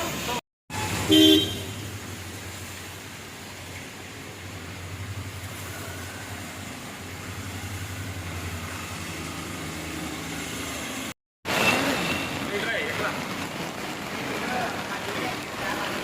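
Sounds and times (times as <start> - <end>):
road vehicles humming: 0.0 - 16.0.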